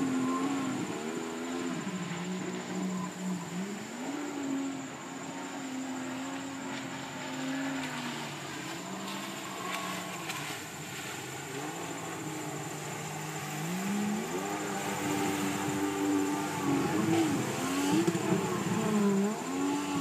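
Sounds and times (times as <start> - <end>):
jet ski engine revving: 0.0 - 20.0.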